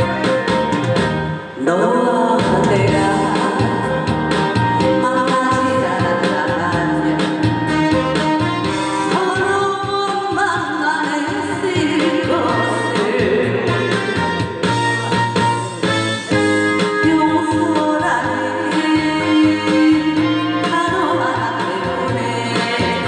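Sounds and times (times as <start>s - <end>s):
instrumental backing track: 0.0s - 23.0s
woman singing into a microphone: 1.5s - 14.6s, 16.7s - 23.0s.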